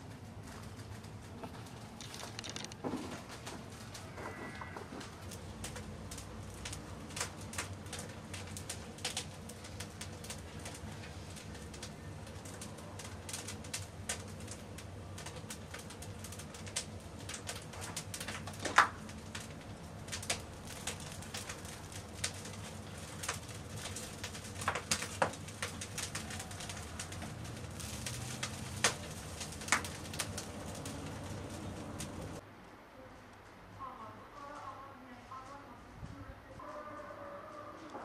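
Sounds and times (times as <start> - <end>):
wood fire crackling and popping: 0.0 - 32.4.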